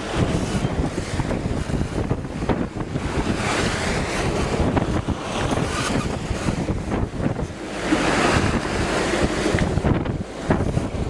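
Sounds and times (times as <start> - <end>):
foaming water rushing past boat: 0.0 - 11.0
wind buffeting microphone: 0.0 - 11.0.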